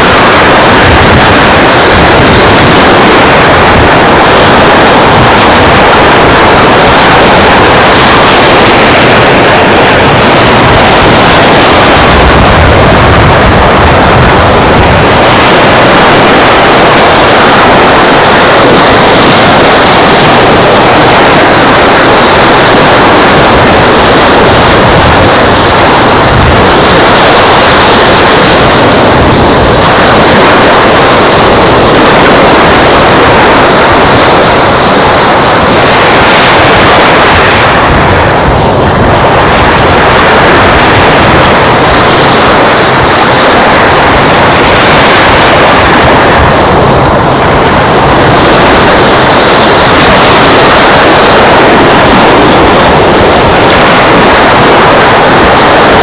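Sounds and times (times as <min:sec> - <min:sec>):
surf rushing: 0:00.0 - 0:56.0
wind on microphone: 0:00.0 - 0:56.0.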